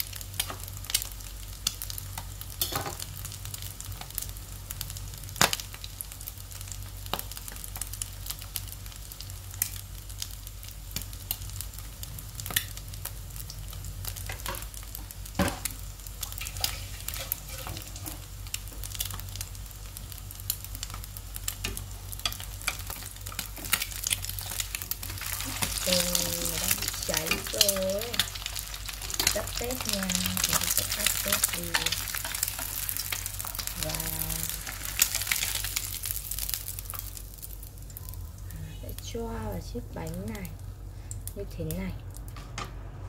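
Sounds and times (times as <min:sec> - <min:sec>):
egg sizzling in oil: 0:00.0 - 0:38.0.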